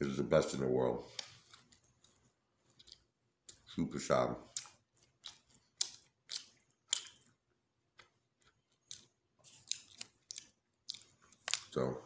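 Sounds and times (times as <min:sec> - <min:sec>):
person chewing with wet smacks: 0:01.1 - 0:03.8, 0:04.4 - 0:11.8.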